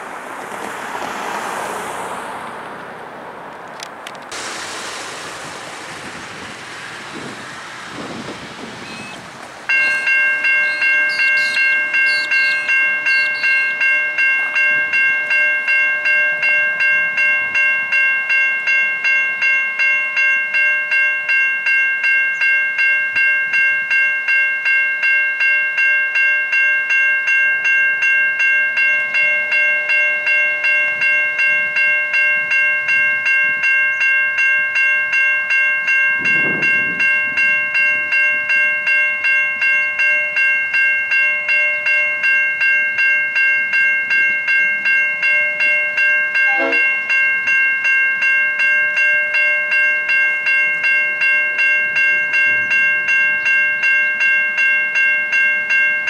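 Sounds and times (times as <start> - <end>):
level crossing warning bell ringing: 4.3 - 56.0.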